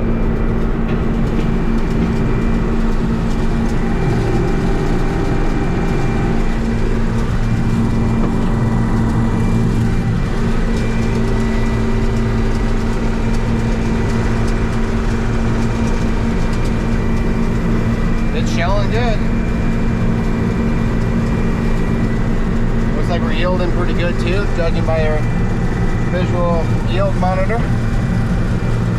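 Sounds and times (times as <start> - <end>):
combine harvester droning: 0.0 - 28.9.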